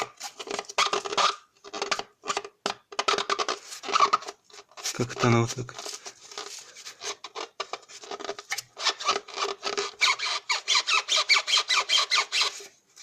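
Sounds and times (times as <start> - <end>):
rubber creaking in car suspension: 0.0 - 12.6.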